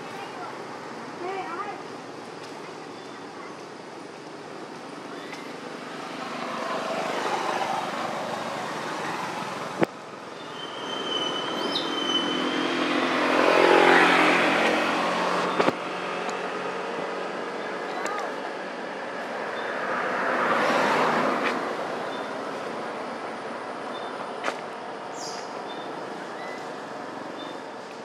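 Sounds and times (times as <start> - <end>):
vehicle passing on road: 4.0 - 28.0.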